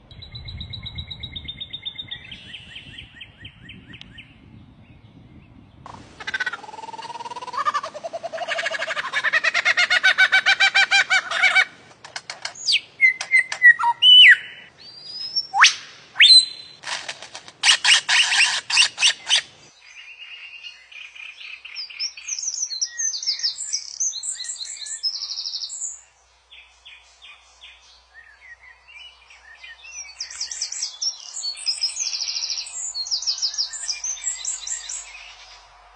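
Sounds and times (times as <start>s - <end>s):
songbird singing: 0.0s - 16.8s, 17.6s - 35.9s.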